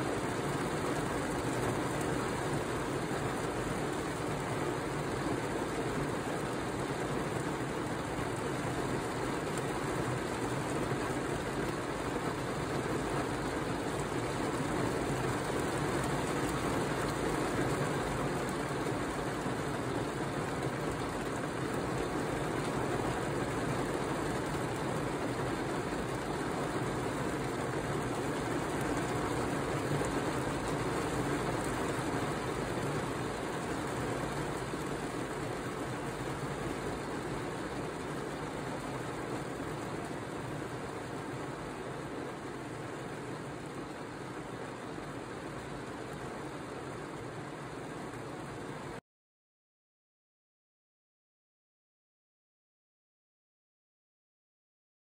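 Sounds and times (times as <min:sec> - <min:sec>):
heavy rain on car roof: 0:00.0 - 0:49.0.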